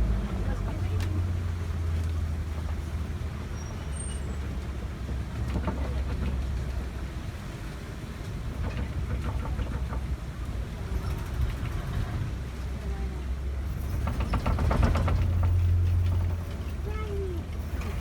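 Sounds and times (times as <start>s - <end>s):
truck engine and tyres rumbling: 0.0s - 18.0s.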